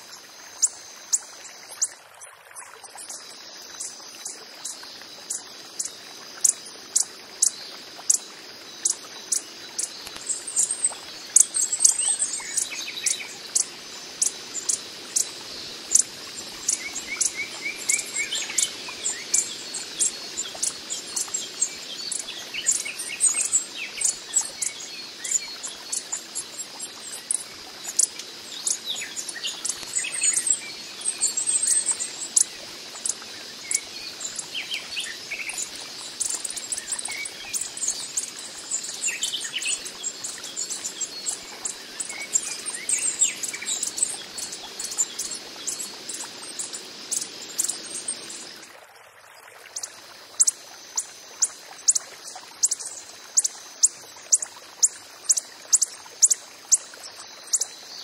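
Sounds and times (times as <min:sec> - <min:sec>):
high insect hum: 0:00.0 - 0:58.0.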